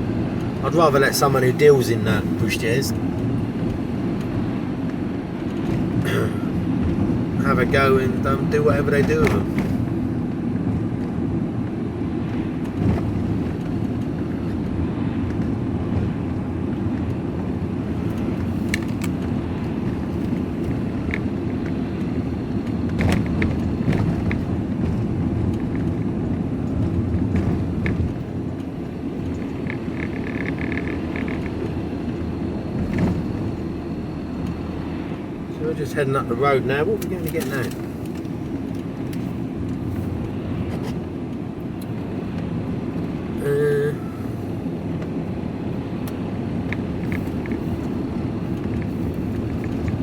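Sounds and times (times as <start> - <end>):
engine and road rumble: 0.0 - 50.0.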